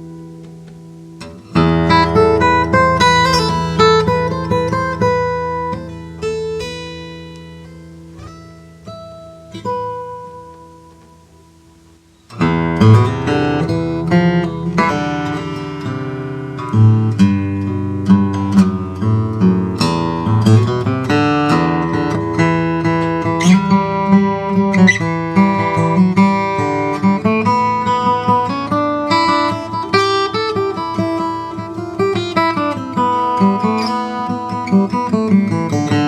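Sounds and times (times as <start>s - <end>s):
acoustic guitar playing: 0.0s - 36.0s.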